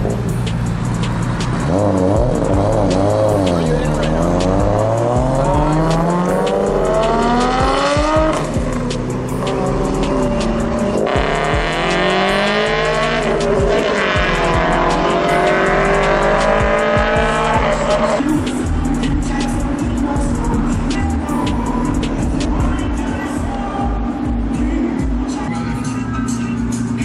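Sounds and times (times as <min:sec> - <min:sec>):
car engine revving: 0:00.0 - 0:27.0
music: 0:00.0 - 0:27.0.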